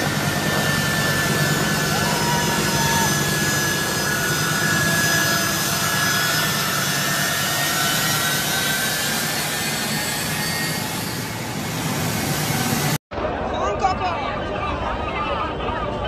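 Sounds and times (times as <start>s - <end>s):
high thin engine whine: 0.0s - 13.0s
jet engines rushing: 0.0s - 13.0s.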